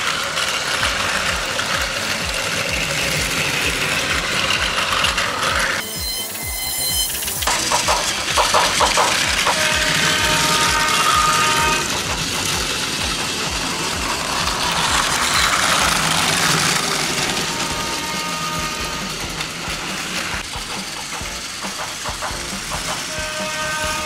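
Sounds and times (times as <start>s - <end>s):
small electric motors whirring: 0.0s - 22.2s
toy train wheels clicking on track: 0.0s - 24.0s.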